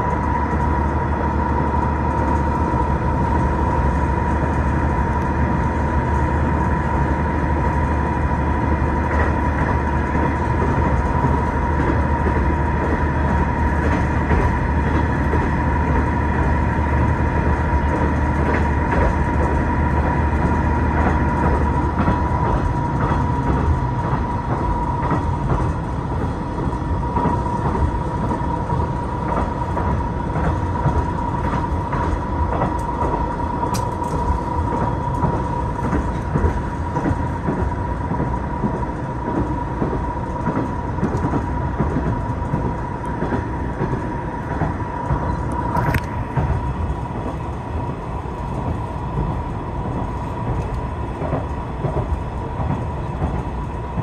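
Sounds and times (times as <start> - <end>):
constant whine: 0.0 - 54.0
low engine sound: 0.0 - 54.0
train running rumble: 0.0 - 54.0
wheels clicking over rail joints: 0.0 - 54.0.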